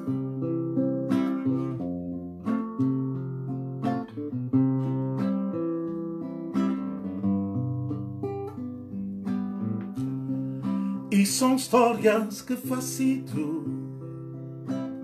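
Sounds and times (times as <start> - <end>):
classical guitar strumming: 0.0 - 15.0.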